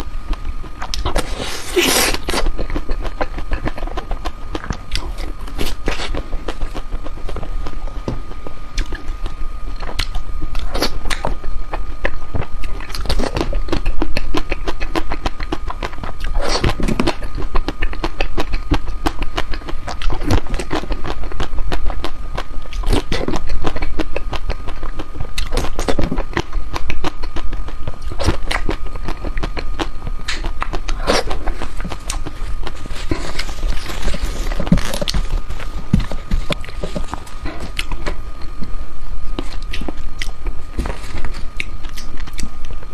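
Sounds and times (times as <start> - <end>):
eating ice cream close up: 0.0 - 42.9
steady hum: 0.0 - 42.9.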